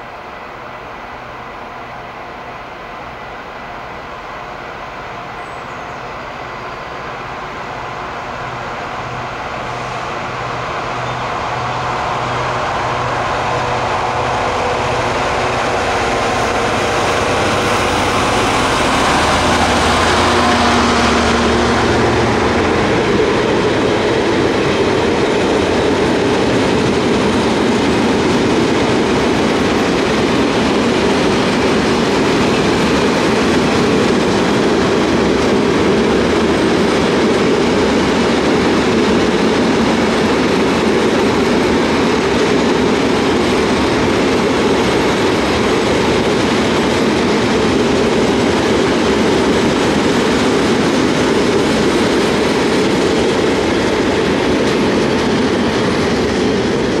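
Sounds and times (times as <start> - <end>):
freight train wheels on rails: 0.0 - 57.0.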